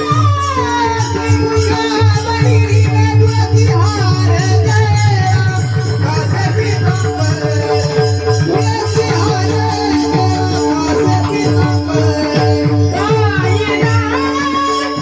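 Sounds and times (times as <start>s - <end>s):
harmonium drone and melody: 0.0s - 15.0s.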